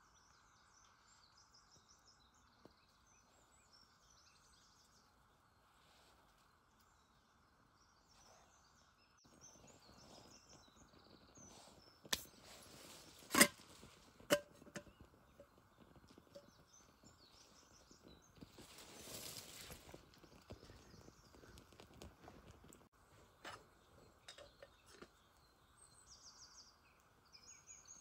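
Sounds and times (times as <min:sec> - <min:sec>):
faint outdoor background: 0:00.0 - 0:28.0.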